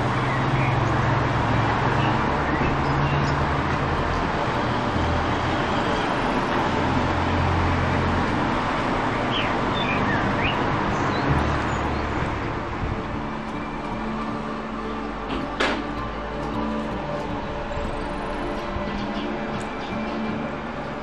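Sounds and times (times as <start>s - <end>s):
low rumble: 0.0s - 21.0s
outdoor rushing noise: 0.0s - 21.0s.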